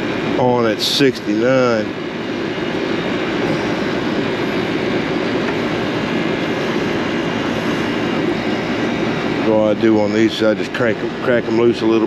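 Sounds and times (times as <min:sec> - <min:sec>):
air conditioning unit running: 0:00.0 - 0:12.0.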